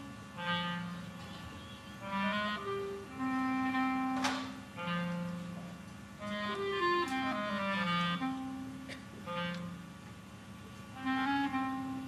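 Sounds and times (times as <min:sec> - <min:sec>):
slow melody of held notes: 0:00.0 - 0:09.9, 0:10.9 - 0:12.0.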